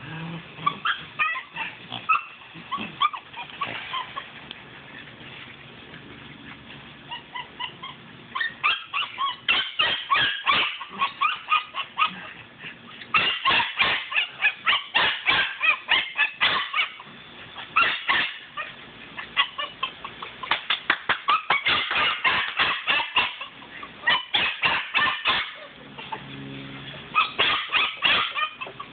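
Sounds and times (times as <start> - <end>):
puppy yapping: 0.6 - 4.3, 7.1 - 12.3, 13.0 - 17.0, 17.6 - 26.4, 27.1 - 28.9.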